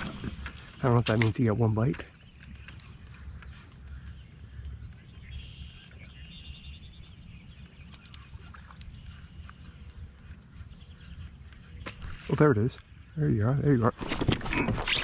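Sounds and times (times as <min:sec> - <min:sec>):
faint insect-like chirping: 0:00.0 - 0:14.0.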